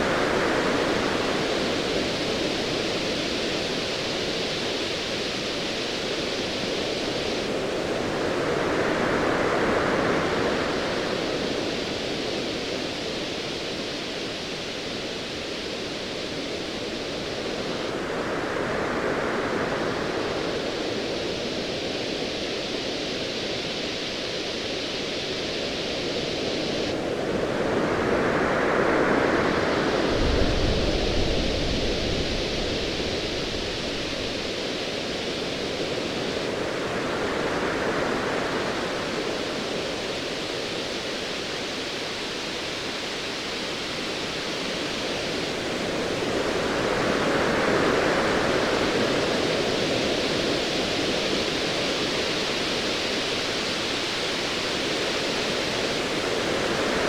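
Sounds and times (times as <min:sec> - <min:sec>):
surf hiss: 0:00.0 - 0:57.0.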